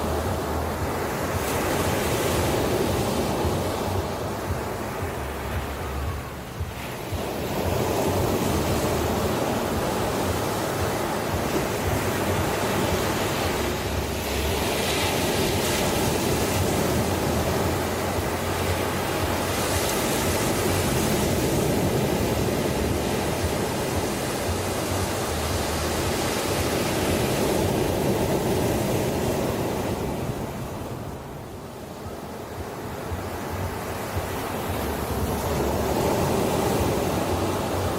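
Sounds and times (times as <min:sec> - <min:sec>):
ocean waves breaking on shore: 0:00.0 - 0:37.9.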